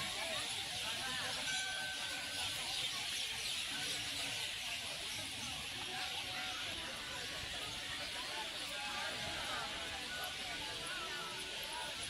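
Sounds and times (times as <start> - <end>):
hiss-like crowd noise: 0.0 - 12.0.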